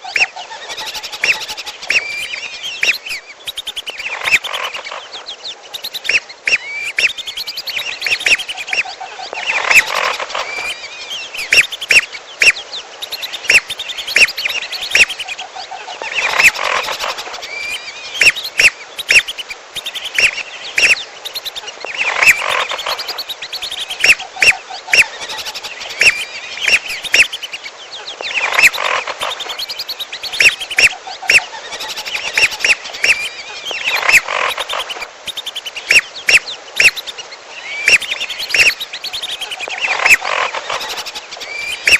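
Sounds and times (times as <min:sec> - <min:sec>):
whistling duck calls: 0:00.1 - 0:04.8, 0:05.8 - 0:15.4, 0:16.1 - 0:27.6, 0:28.2 - 0:41.9
bird chattering notes: 0:00.1 - 0:04.9, 0:05.8 - 0:10.8, 0:11.4 - 0:15.4, 0:16.1 - 0:27.6, 0:28.2 - 0:37.2, 0:37.8 - 0:41.9.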